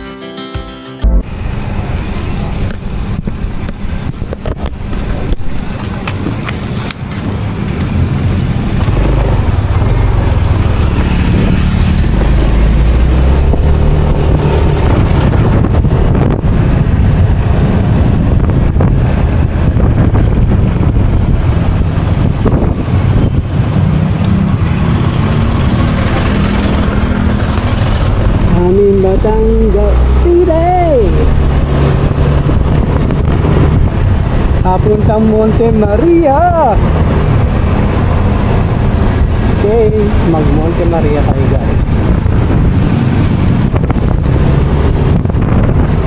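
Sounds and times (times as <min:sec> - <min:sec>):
motorcycle engine running: 0:01.2 - 0:46.0
wind buffeting microphone: 0:01.2 - 0:46.0.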